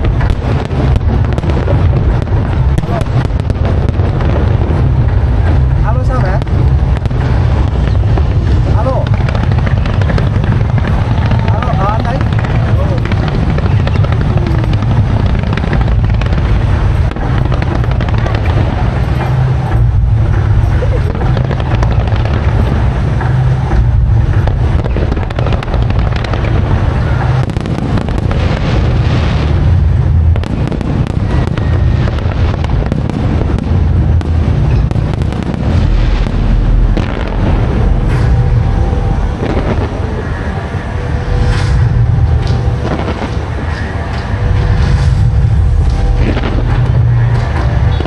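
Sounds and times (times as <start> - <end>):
fireworks bangs and crackling: 0.0 - 48.0
heavy low booms: 0.0 - 48.0.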